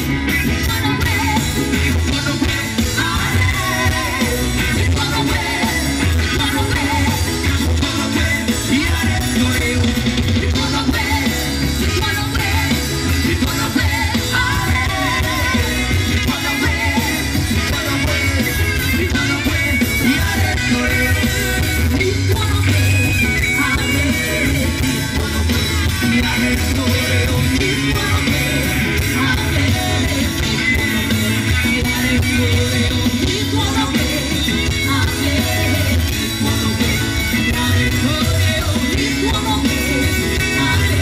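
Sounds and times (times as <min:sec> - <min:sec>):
live reggae band: 0:00.0 - 0:41.0
person singing: 0:00.0 - 0:41.0.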